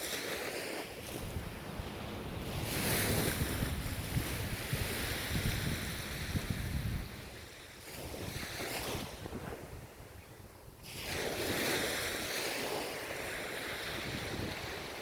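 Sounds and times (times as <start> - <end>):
ocean waves washing on shore: 0.0 - 15.0.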